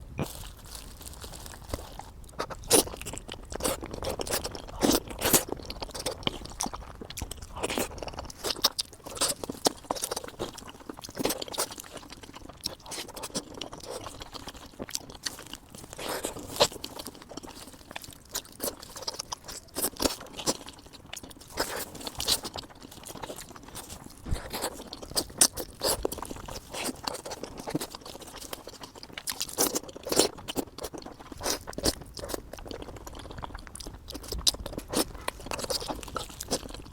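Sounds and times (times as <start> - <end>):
chewing and crunching food: 0.0 - 36.9.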